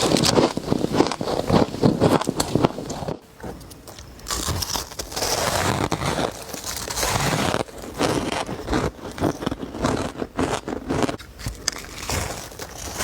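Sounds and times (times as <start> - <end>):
ice being crunched: 0.0 - 3.2, 4.3 - 13.0.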